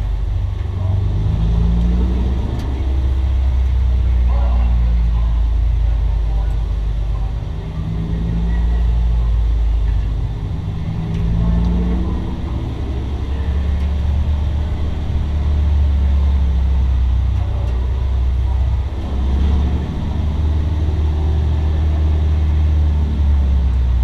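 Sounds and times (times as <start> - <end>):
loud deep race car engine: 0.0 - 24.0.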